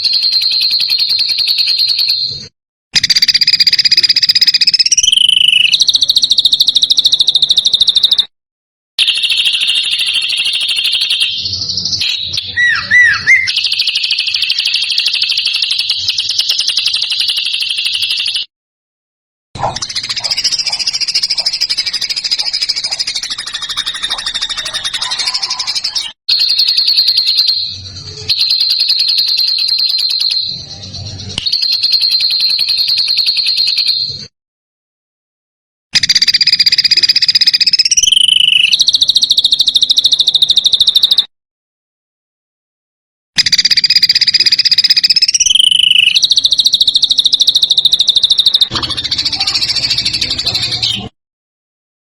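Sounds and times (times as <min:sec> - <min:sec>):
songbird buzzy high-pitched trills: 0:03.0 - 0:08.3, 0:09.0 - 0:18.5, 0:19.9 - 0:34.1, 0:36.0 - 0:41.2, 0:43.4 - 0:51.0.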